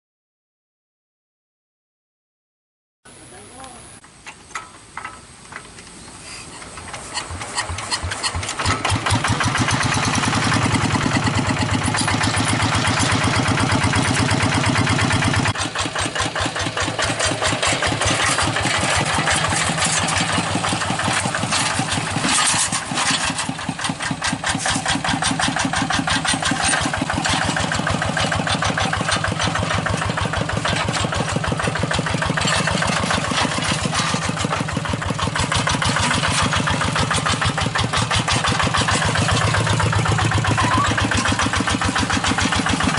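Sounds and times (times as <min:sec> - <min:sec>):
tractor engine chugging: 0:04.1 - 0:42.9.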